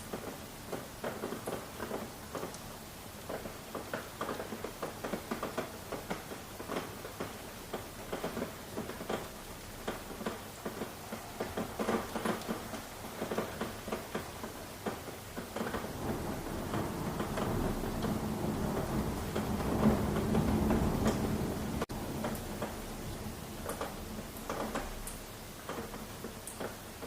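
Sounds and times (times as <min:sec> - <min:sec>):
rain drops pattering: 0:00.0 - 0:27.0.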